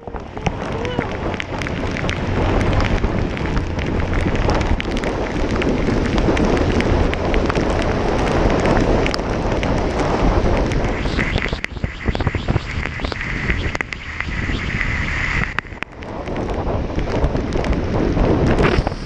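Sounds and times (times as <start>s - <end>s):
raindrops ticking on microphone: 0.0s - 19.0s
wind buffeting microphone: 0.0s - 19.0s.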